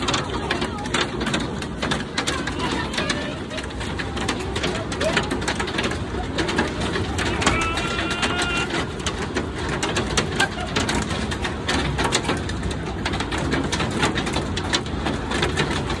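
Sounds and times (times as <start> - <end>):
hailstones clattering: 0.0 - 16.0
rush of falling ice and rain: 0.0 - 16.0.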